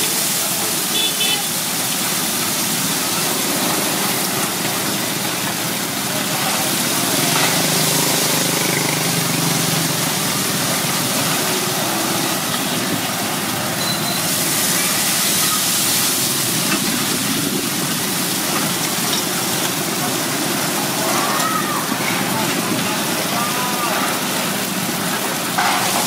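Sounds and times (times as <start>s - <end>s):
fritters sizzling in hot oil: 0.0s - 26.0s.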